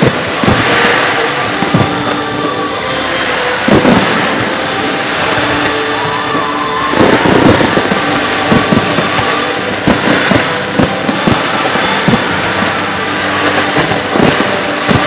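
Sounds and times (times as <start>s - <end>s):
fireworks bursting: 0.0s - 15.0s
loud music: 0.0s - 15.0s.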